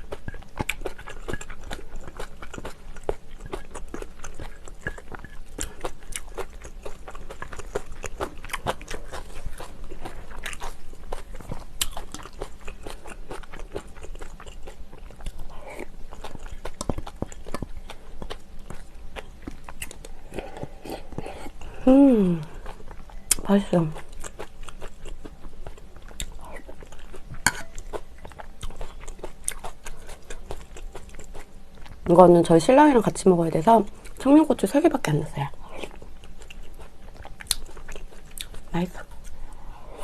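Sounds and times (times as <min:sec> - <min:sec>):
person chewing food: 0:00.0 - 0:32.1, 0:35.5 - 0:40.0.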